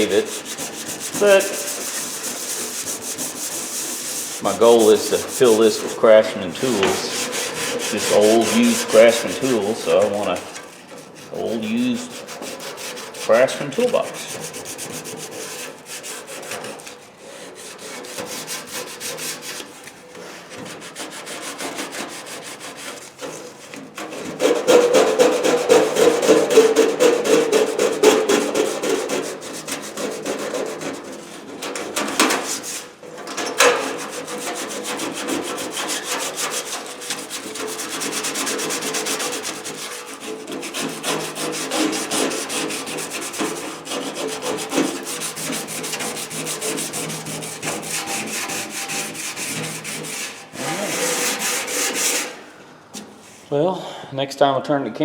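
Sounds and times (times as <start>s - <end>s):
sandpaper rasping on steel: 0.0s - 33.0s, 33.6s - 52.4s.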